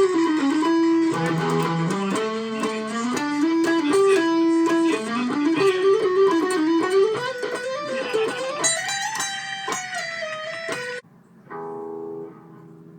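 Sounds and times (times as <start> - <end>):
guitar lead with sliding notes: 0.0 - 12.9.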